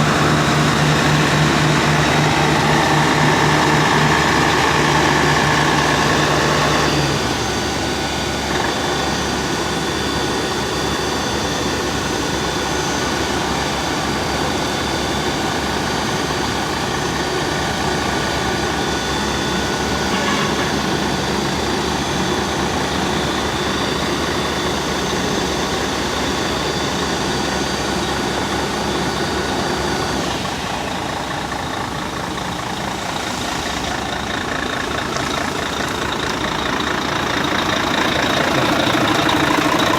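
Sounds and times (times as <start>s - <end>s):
fire truck engine running: 0.0s - 39.9s.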